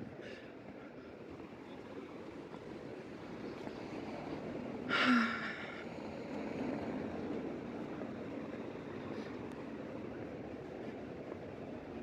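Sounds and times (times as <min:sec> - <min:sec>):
traffic hum: 0:00.0 - 0:12.0.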